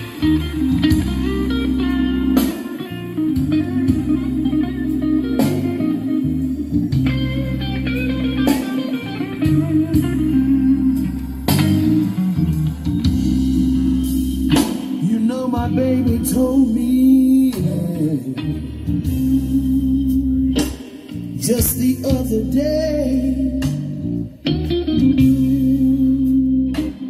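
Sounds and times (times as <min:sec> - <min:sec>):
electric guitar lead: 0:00.0 - 0:27.0
sustained bass: 0:00.0 - 0:27.0.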